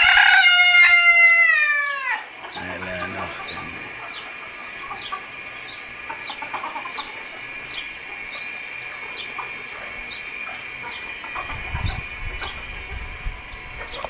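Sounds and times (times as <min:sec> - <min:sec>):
chickens clucking: 0:00.0 - 0:14.0
steady high-pitched whine: 0:00.0 - 0:14.0.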